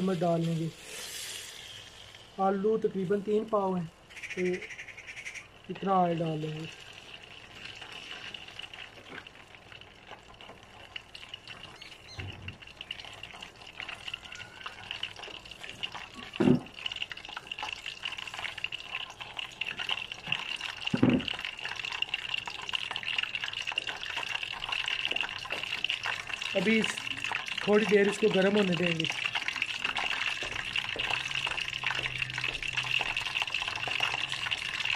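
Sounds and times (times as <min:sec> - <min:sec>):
oil hissing and crackling: 0:00.0 - 0:34.9.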